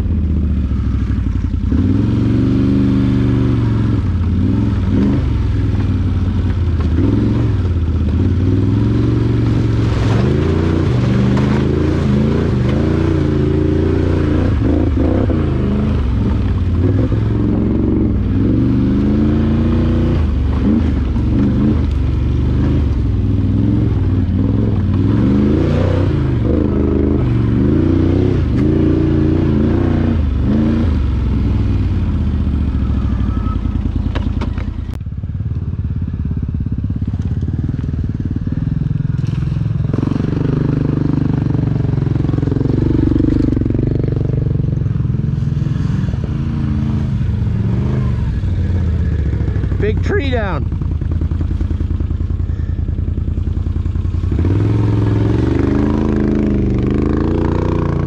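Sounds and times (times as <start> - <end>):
quad bike engine revving: 0.0 - 34.8, 35.9 - 58.0.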